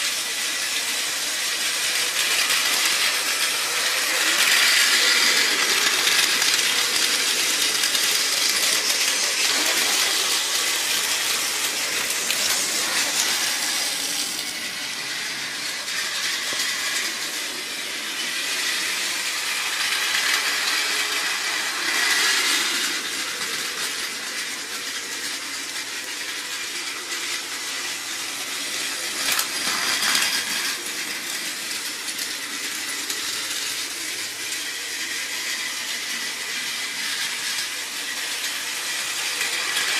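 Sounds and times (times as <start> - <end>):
gears and wheels rattling: 0.0 - 39.9
toy train motors whirring: 0.0 - 39.9.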